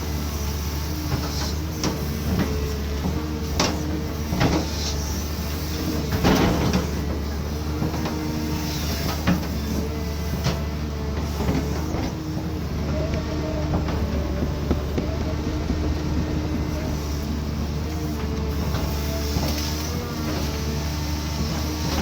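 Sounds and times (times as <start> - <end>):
diesel engine humming: 0.0 - 22.0
hydraulic whine: 0.0 - 22.0.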